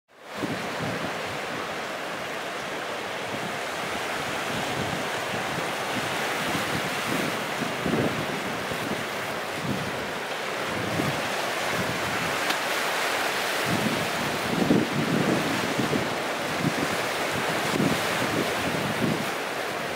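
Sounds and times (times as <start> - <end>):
waves breaking on rocks: 0.2 - 19.9
wind buffeting microphone: 0.4 - 2.1, 3.1 - 12.5, 13.5 - 19.9.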